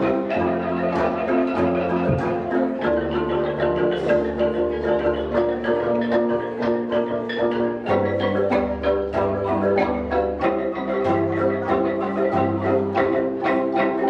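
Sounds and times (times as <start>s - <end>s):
mallet percussion notes: 0.0s - 14.0s.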